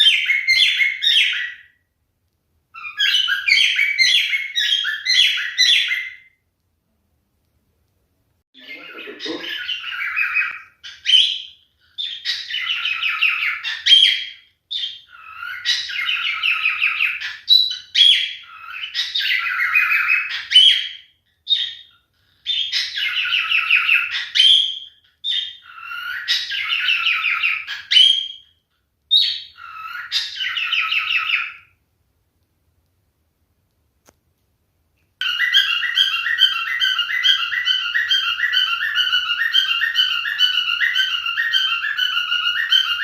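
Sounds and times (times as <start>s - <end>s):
cockatiel warbling and chattering: 0.0s - 1.7s, 2.8s - 6.3s, 8.6s - 28.5s, 29.1s - 31.7s, 35.2s - 43.0s.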